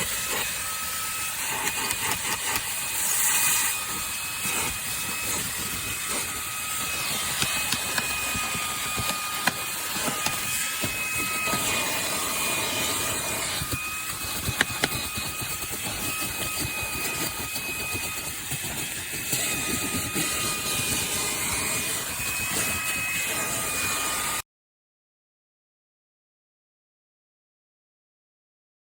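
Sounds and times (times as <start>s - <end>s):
handheld vacuum running: 0.0s - 24.4s.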